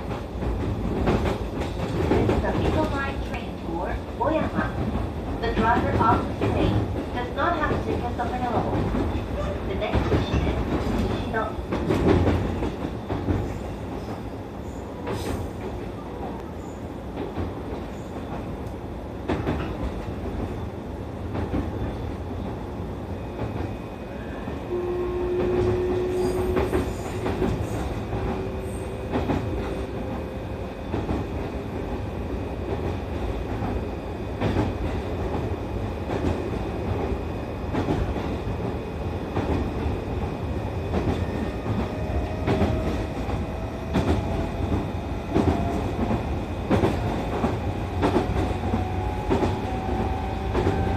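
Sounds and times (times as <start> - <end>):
train running rumble: 0.0 - 23.8, 24.4 - 50.9.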